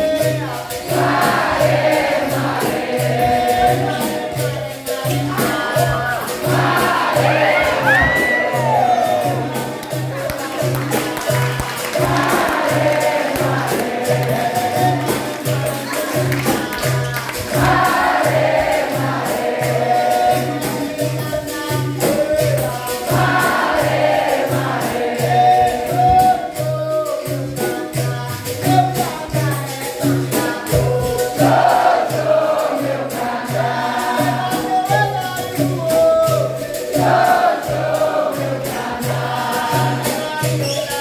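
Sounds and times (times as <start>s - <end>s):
berimbau and pandeiro rhythm: 0.0s - 41.0s
group singing in chorus: 0.0s - 41.0s.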